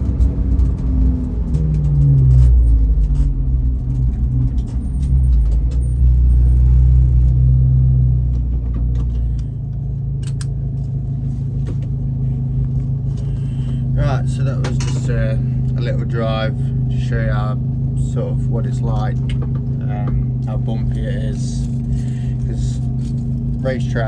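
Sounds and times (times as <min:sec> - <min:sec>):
race car engine: 0:00.0 - 0:24.0
road rumble: 0:00.0 - 0:24.0.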